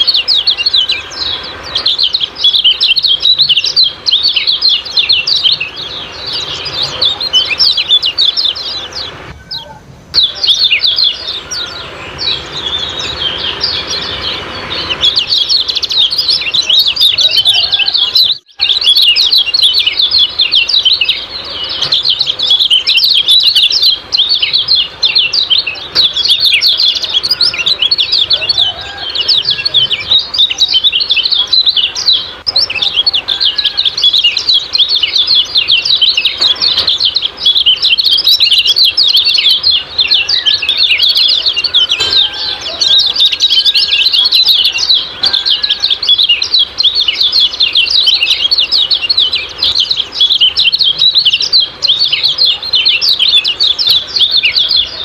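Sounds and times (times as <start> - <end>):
bird chirping rapidly: 0.0 - 55.0
low whistled bird notes: 0.0 - 55.0.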